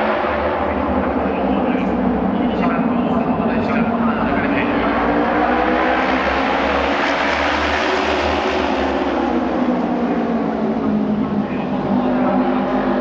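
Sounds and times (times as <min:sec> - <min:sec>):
racing motorcycle engines droning: 0:00.0 - 0:13.0.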